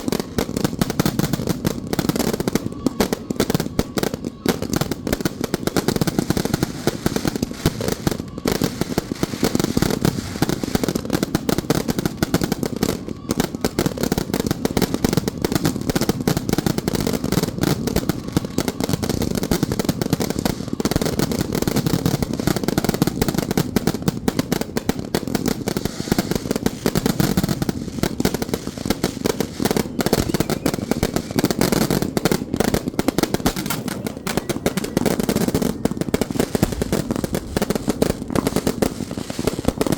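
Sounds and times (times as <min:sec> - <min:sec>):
firecrackers popping: 0:00.0 - 0:39.9.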